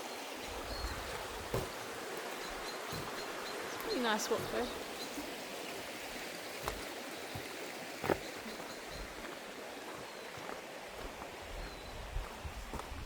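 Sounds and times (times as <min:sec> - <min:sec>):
stream rushing over stones: 0:00.0 - 0:13.0.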